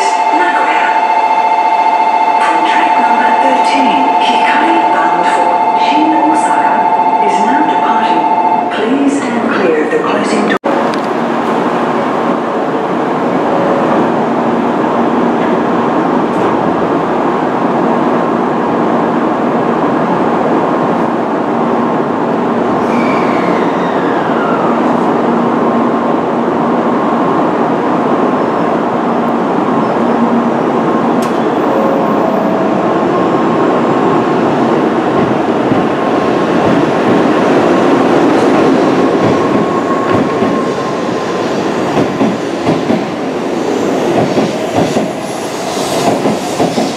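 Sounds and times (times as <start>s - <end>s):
train hum: 0.0s - 46.9s.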